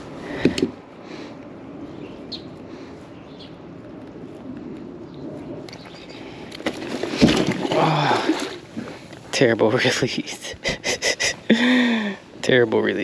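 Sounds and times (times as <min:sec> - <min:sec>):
wind and water around a kayak: 0:00.0 - 0:13.0.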